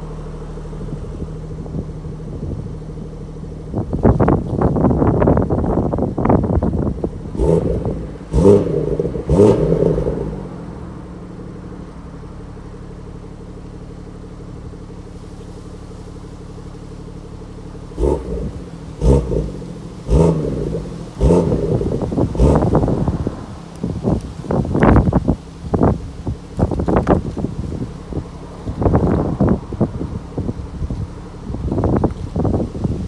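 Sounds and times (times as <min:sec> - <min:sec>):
car engine idling: 0:00.0 - 0:33.0
car engine revving: 0:00.0 - 0:33.0.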